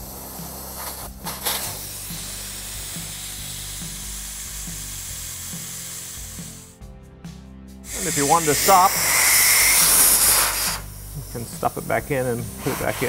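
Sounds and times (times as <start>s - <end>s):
air hissing out of tire valve: 0.0s - 6.8s, 7.8s - 13.0s
background music with steady beat: 0.0s - 13.0s.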